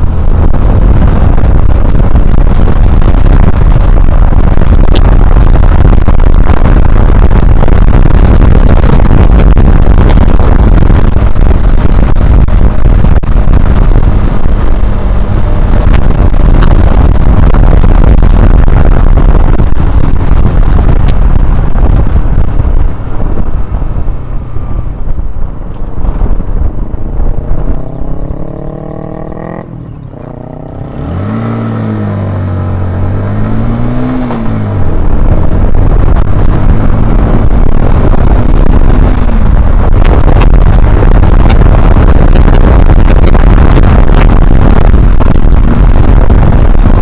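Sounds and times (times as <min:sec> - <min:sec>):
wind roaring on microphone: 0:00.0 - 0:47.0
motorcycle engine shifting gears: 0:08.1 - 0:46.6.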